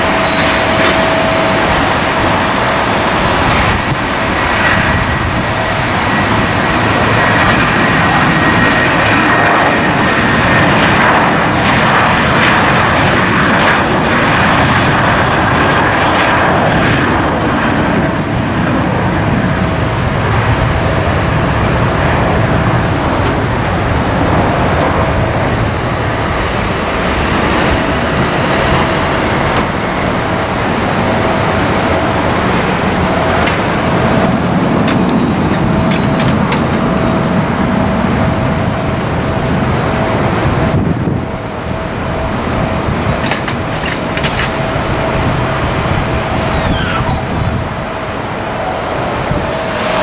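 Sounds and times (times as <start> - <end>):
airliner engines running: 0.0 - 50.0
high engine whine: 0.0 - 50.0.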